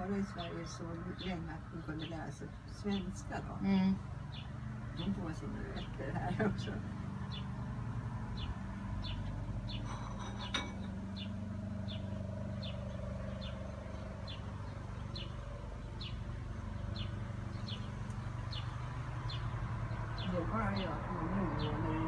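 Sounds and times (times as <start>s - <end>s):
small bird chirping: 0.2s - 6.0s, 6.7s - 22.0s.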